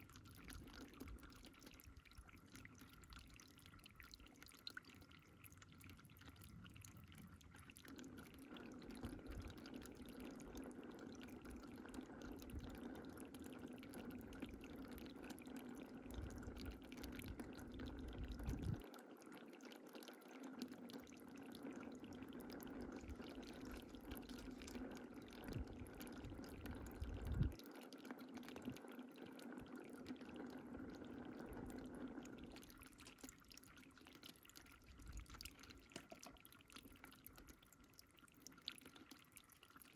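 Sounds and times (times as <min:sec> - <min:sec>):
faint water drips: 0:00.0 - 0:39.9
water pouring and trickling: 0:00.0 - 0:39.9.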